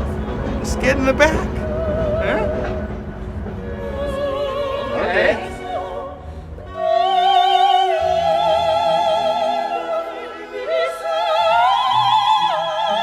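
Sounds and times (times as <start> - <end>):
operatic singing with vibrato: 0.0 - 13.0.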